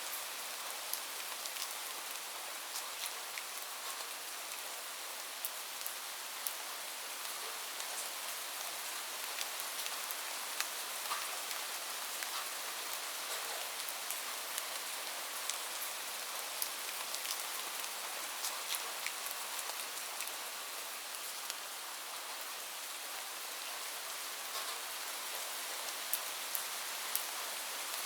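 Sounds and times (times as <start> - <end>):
rain drops on hard surface: 0.0 - 28.0.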